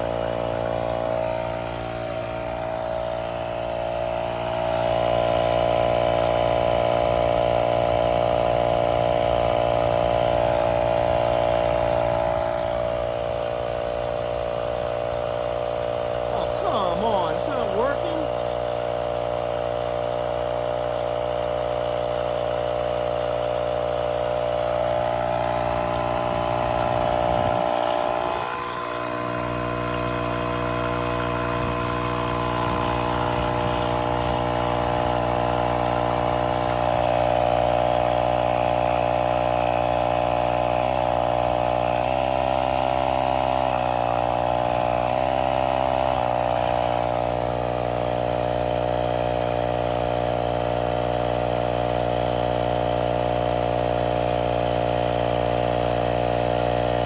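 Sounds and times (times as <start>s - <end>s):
tyre inflator compressor running: 0.0s - 57.0s.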